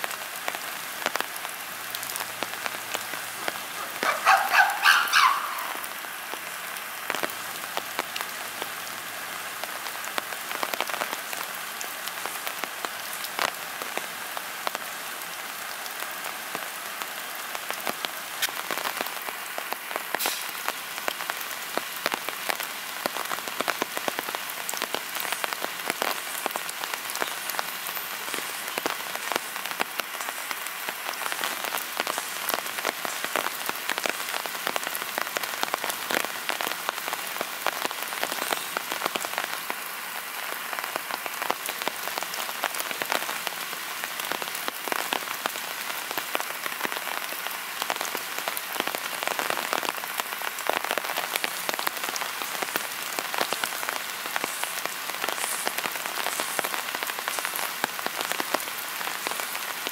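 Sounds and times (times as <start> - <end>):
raindrops striking close by: 0.0 - 59.9
steady rain falling: 0.0 - 59.9.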